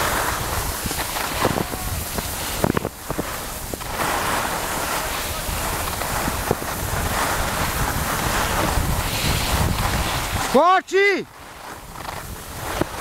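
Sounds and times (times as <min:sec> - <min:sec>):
skis sliding over snow: 0:00.0 - 0:13.0
wind on microphone: 0:00.0 - 0:13.0.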